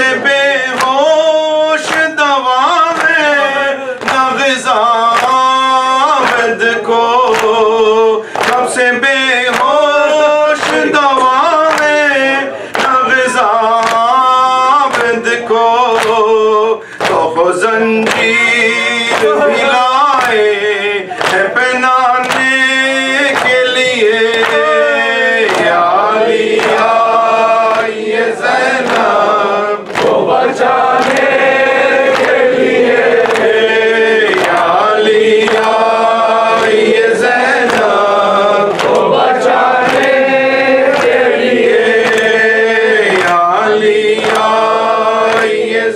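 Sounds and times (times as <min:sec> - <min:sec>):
man chanting into a microphone: 0:00.0 - 0:45.9
sharp rhythmic strikes: 0:00.0 - 0:45.9
voices singing in chorus: 0:00.0 - 0:45.9.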